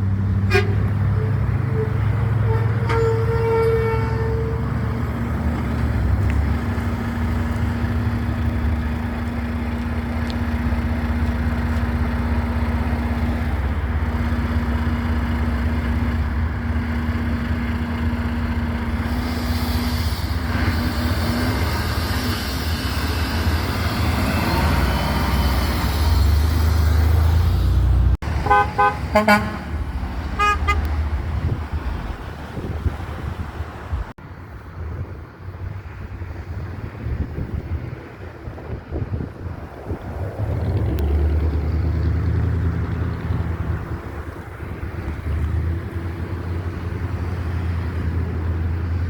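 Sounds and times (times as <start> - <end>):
passing vehicle tyres and wind: 0.0 - 49.0
truck engines running: 0.0 - 49.0.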